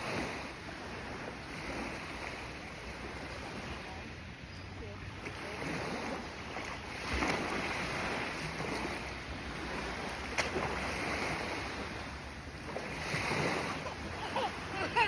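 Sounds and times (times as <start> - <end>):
sea water splashing and lapping: 0.0 - 15.0.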